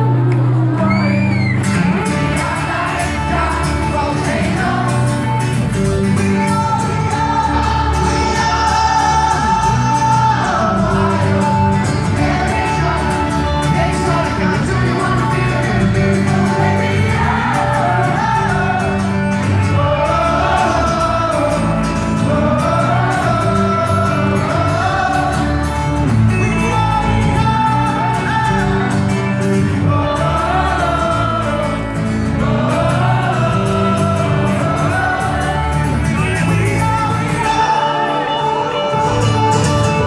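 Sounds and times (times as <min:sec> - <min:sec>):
guitar chords: 0:00.0 - 0:40.0
person singing: 0:00.0 - 0:40.0.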